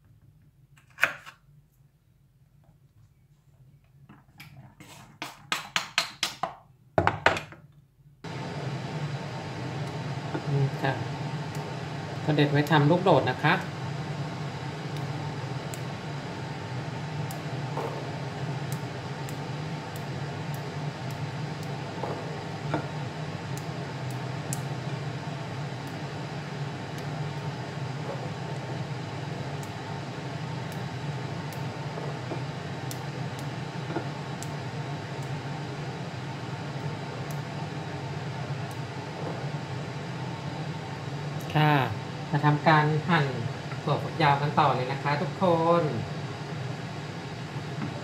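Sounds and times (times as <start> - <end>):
low machine hum: 8.2 - 48.0.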